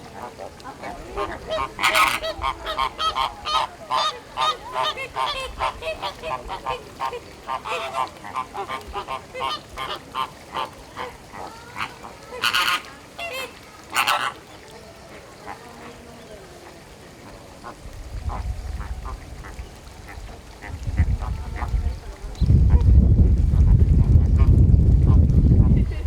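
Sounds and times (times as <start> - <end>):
flamingos honking: 0.0 - 22.4.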